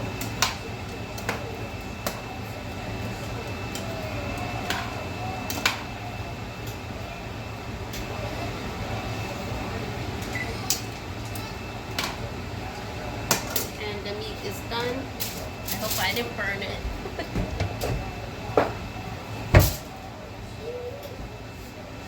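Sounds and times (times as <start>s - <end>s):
exhaust fan whirring: 0.0s - 22.0s.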